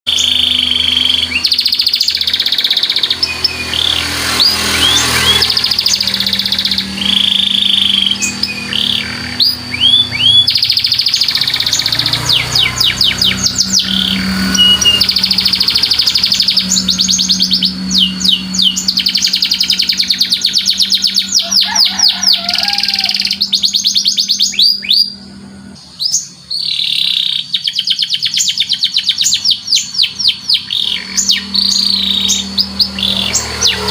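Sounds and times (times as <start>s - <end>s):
canary singing trills and chirps: 0.1s - 33.9s.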